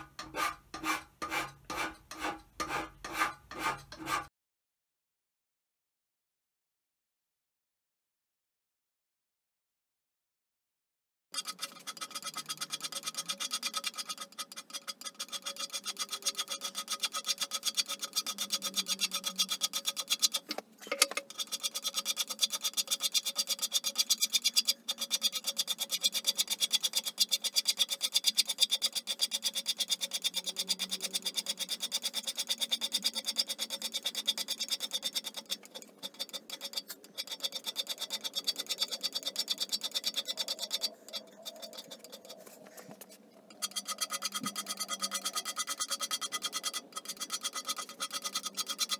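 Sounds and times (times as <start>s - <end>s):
hand scraper scraping cast iron: 0.0s - 4.3s, 11.4s - 48.9s.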